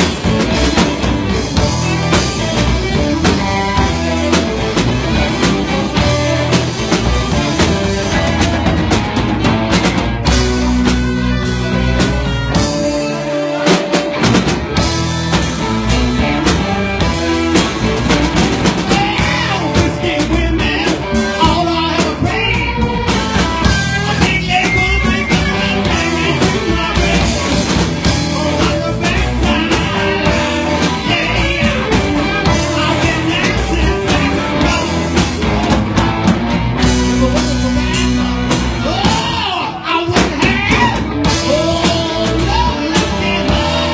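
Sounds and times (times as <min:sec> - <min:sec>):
drum kit beat: 0:00.0 - 0:43.9
electric bass: 0:00.0 - 0:43.9
live blues-rock band: 0:00.0 - 0:43.9.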